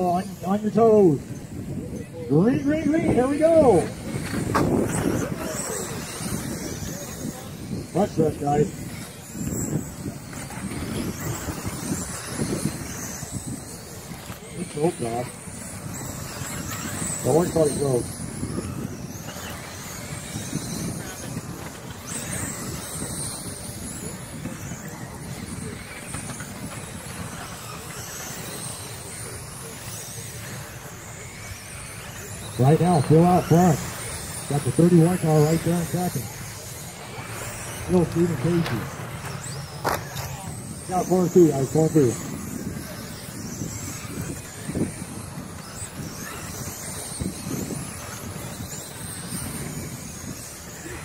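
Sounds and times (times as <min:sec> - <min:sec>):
constant low rumble: 0:00.0 - 0:51.0
rc car motors whining: 0:00.0 - 0:51.0.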